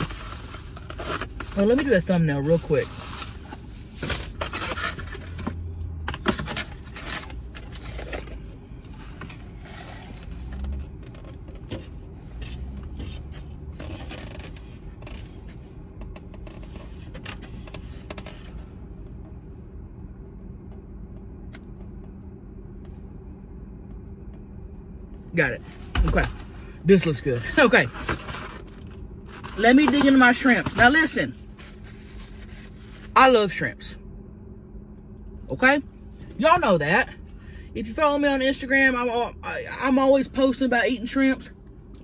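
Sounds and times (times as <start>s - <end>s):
car cabin hum: 0.0s - 42.0s.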